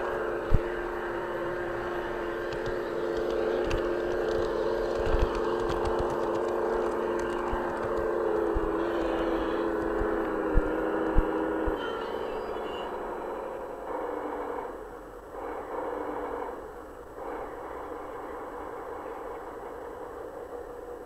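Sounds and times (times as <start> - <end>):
mechanical hum: 0.0 - 21.0
model train motor whine: 0.0 - 21.0.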